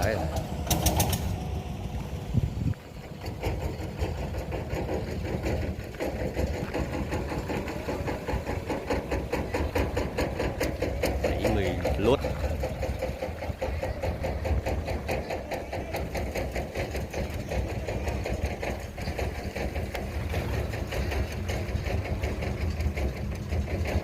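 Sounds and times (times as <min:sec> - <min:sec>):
engine running with mechanical clatter: 0:00.0 - 0:24.0.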